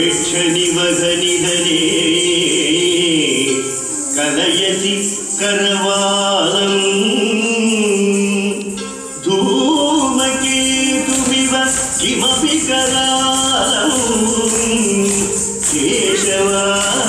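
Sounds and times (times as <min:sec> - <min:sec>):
song with held singing: 0:00.0 - 0:17.0.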